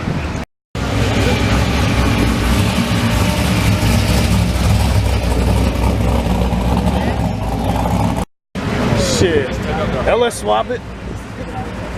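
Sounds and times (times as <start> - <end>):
car engine rumbling: 0.8 - 11.9.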